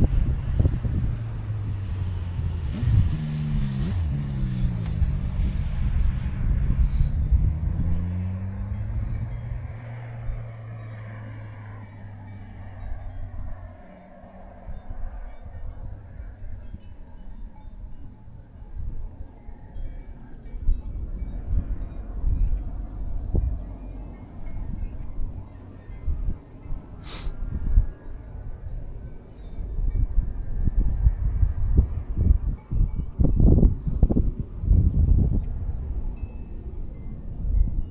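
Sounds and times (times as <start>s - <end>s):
wind gusting on microphone: 0.0s - 13.8s, 14.6s - 37.9s
vehicle engine: 0.0s - 37.9s
cricket trilling: 6.4s - 37.9s.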